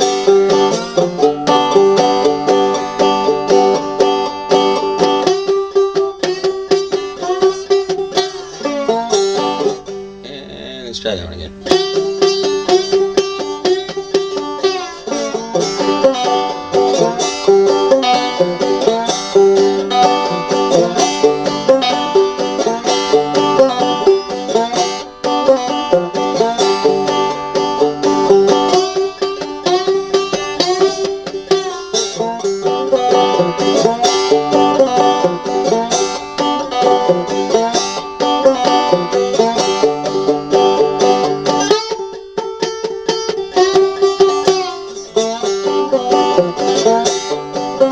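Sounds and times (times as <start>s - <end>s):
banjo with slide playing blues: 0.0s - 47.9s.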